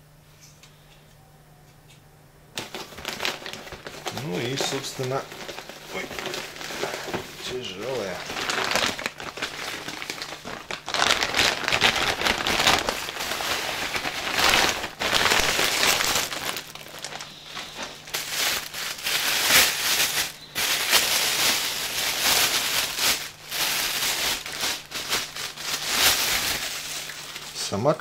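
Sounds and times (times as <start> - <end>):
plastic and paper packaging rustling: 2.6 - 27.9.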